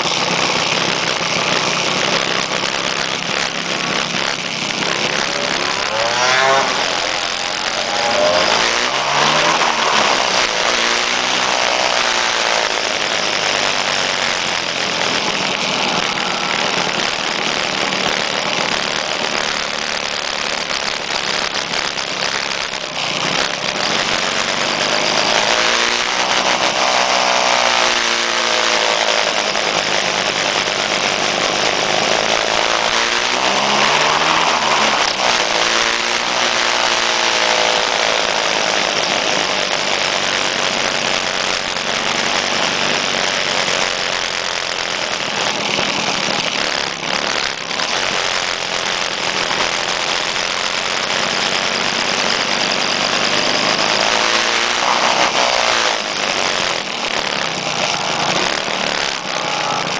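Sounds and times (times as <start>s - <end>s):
scooter engines revving: 0.0s - 59.9s
wind and road noise: 0.0s - 59.9s.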